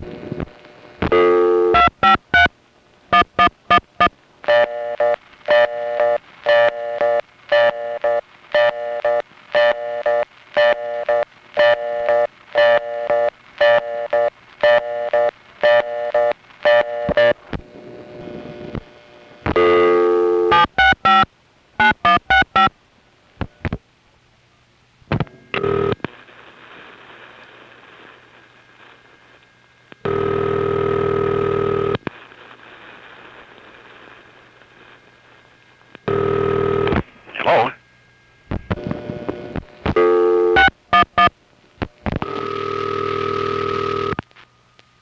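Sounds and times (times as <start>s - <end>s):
buzzy dial tone: 0.0s - 2.5s, 3.1s - 22.8s, 25.2s - 26.1s, 26.8s - 37.8s, 38.5s - 44.2s
pulsing reorder tone: 3.1s - 22.7s, 25.2s - 44.8s.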